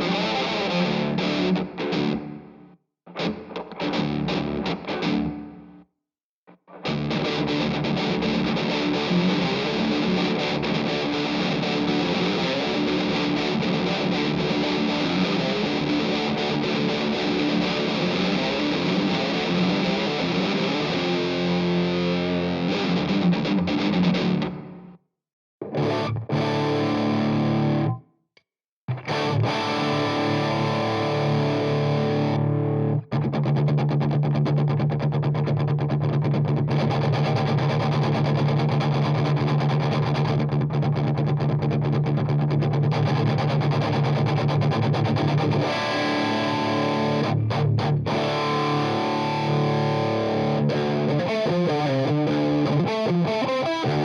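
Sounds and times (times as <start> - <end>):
distorted electric guitar riffing: 0.0 - 5.8, 6.7 - 25.0, 25.6 - 28.0, 28.9 - 54.0.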